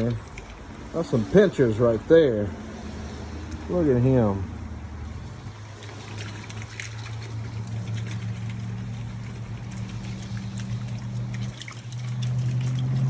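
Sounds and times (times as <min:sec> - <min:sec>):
low motor hum: 0:00.0 - 0:13.0
water pouring and trickling: 0:00.0 - 0:13.0.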